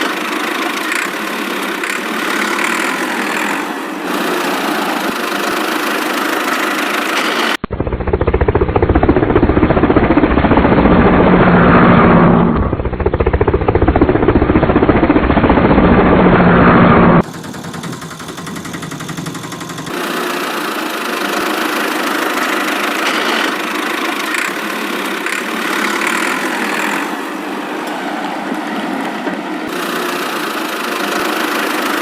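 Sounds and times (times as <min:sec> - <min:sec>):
tractor engine running: 0:00.0 - 0:11.1, 0:17.2 - 0:32.0.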